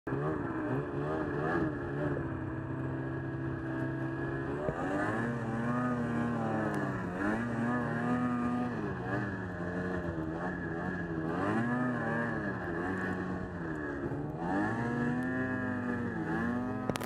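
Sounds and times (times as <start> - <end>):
snowmobile engine revving: 0.1 - 17.0.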